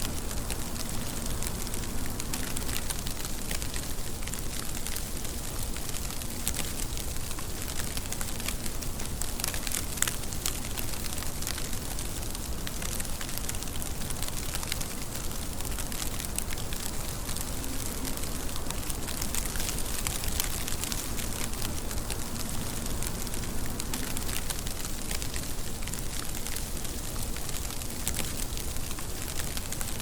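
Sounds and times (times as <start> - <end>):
rain falling: 0.0 - 30.0
raindrops ticking: 0.0 - 30.0.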